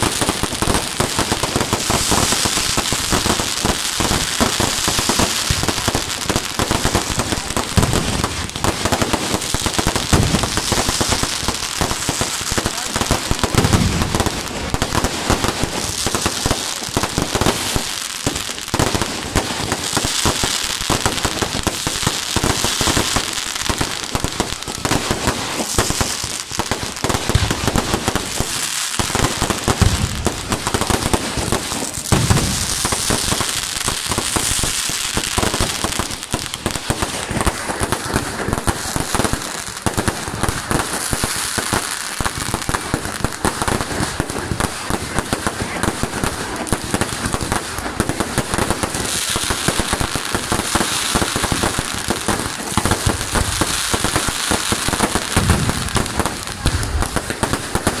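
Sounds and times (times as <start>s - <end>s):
fireworks banging: 0.0s - 58.0s
fireworks crackle: 0.0s - 58.0s.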